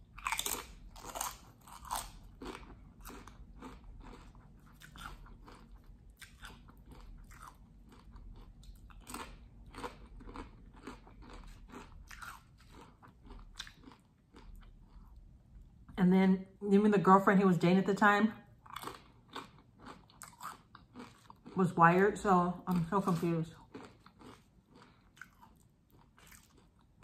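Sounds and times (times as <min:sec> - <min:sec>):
chewing crunchy salad: 0:00.0 - 0:15.7, 0:18.6 - 0:27.0.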